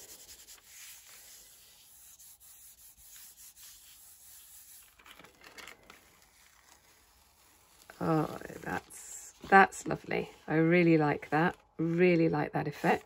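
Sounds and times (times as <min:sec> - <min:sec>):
paper rustling: 0:00.1 - 0:02.2, 0:03.0 - 0:13.0.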